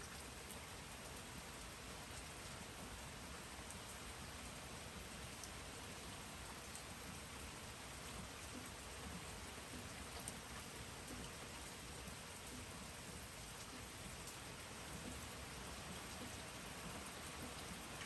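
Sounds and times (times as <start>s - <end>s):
faint rain falling: 0.0s - 18.0s.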